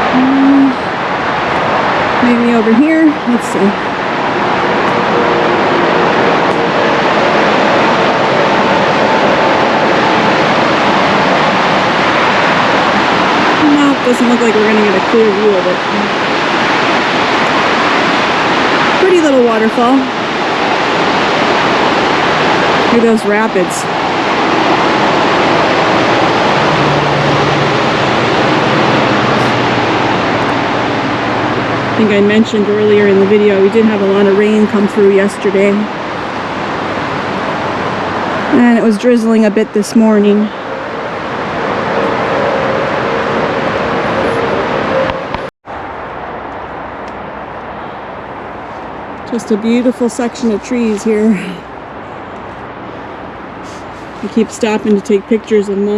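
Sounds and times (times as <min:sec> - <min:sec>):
creek rapids and small waterfall: 0:00.0 - 0:55.9.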